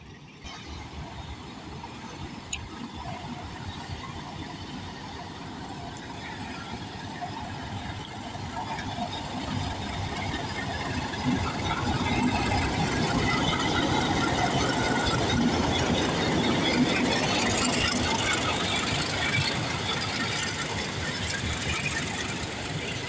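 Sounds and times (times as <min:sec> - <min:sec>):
train wheels on rails: 0:00.0 - 0:23.0
locomotive engine running: 0:00.1 - 0:23.0.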